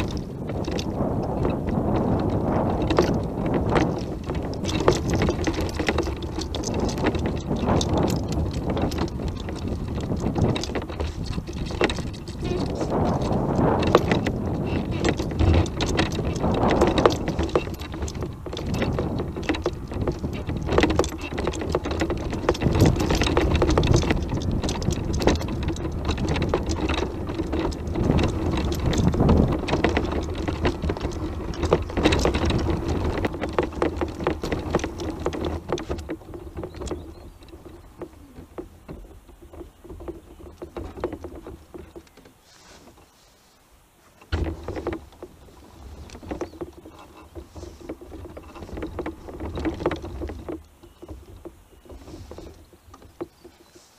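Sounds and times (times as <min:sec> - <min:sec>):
knocks and rattles from bumps: 0:00.0 - 0:43.2, 0:43.8 - 0:53.9.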